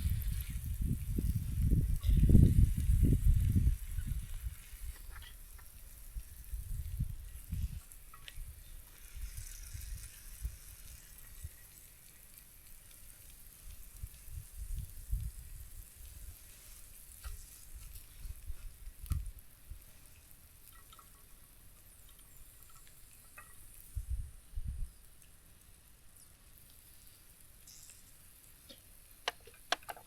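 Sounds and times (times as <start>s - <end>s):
food sizzling in a pan: 0.0s - 29.7s.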